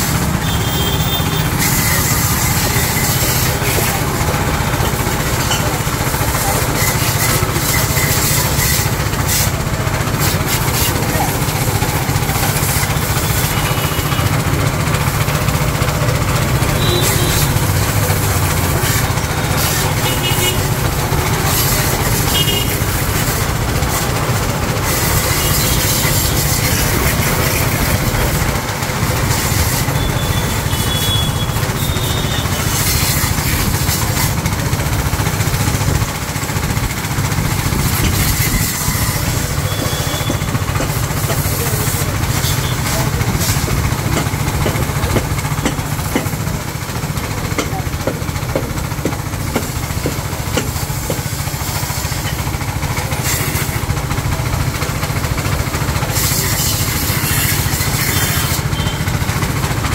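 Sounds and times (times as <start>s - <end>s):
high-pressure water jet hissing: 0.0s - 59.9s
petrol engine running under load: 0.0s - 59.9s.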